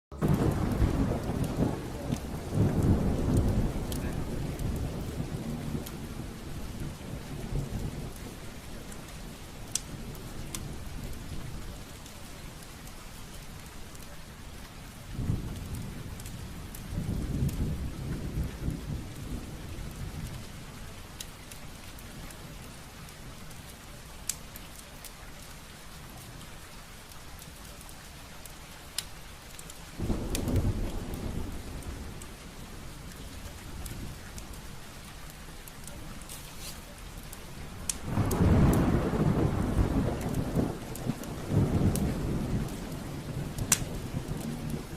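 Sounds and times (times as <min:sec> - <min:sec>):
low rumbling of flames: 0:00.1 - 0:25.2, 0:28.5 - 0:44.9
wood fire crackling: 0:00.1 - 0:44.9.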